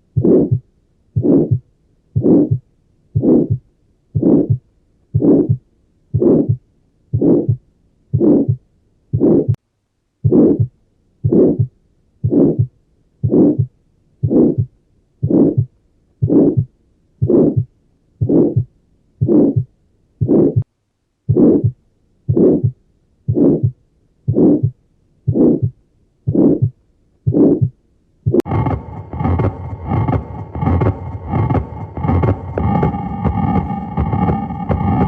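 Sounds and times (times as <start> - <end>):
heartbeat whooshing: 0.1 - 2.6, 3.2 - 5.6, 6.2 - 9.6, 10.2 - 20.7, 21.3 - 35.0.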